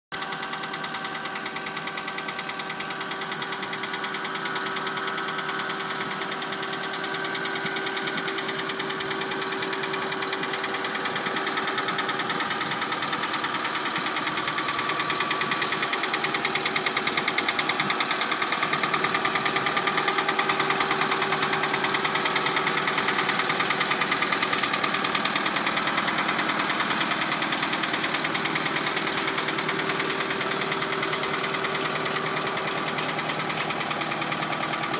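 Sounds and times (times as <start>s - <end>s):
diesel engine knocking steadily: 0.1s - 34.9s.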